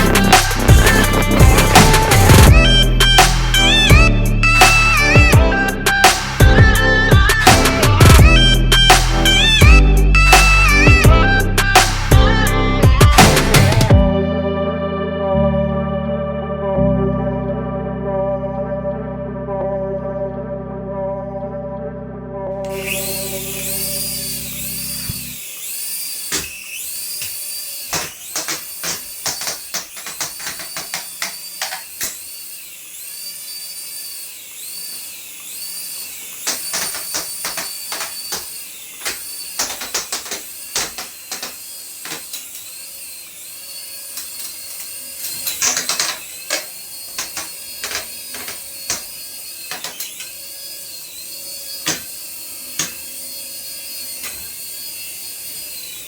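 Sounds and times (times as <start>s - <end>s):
toy motor whirring: 0.0s - 14.0s, 22.6s - 56.0s.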